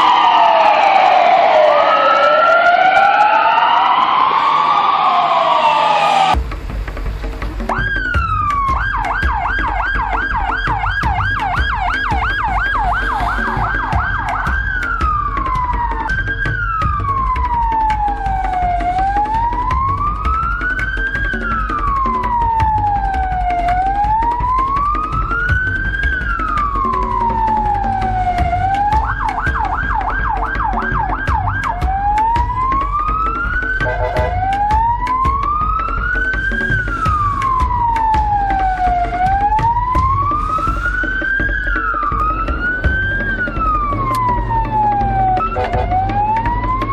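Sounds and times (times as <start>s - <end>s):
electronic siren yelp and wail: 0.0s - 6.4s, 7.7s - 46.9s.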